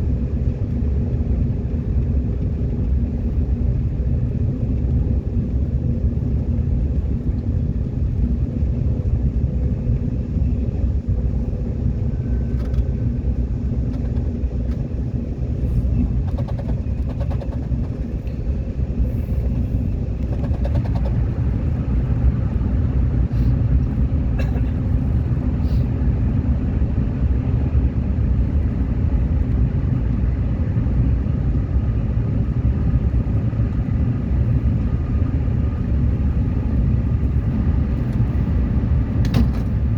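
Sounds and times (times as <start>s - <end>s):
subway train rumbling on track: 0.0s - 39.9s.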